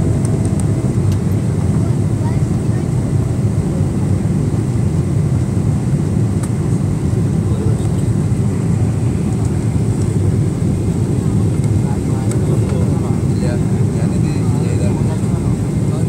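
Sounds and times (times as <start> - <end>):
airplane cabin engine noise: 0.0 - 16.0.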